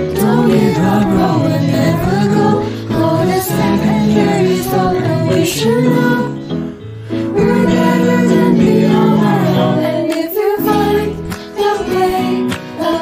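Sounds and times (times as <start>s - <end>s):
choir singing in harmony: 0.0s - 6.6s, 7.2s - 13.0s.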